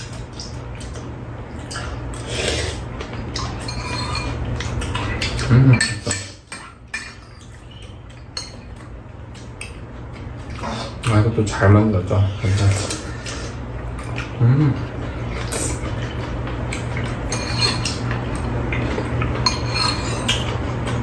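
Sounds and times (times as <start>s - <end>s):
low steady hum: 0.0s - 21.0s
utensils clinking against bowls: 1.6s - 11.8s, 12.4s - 21.0s.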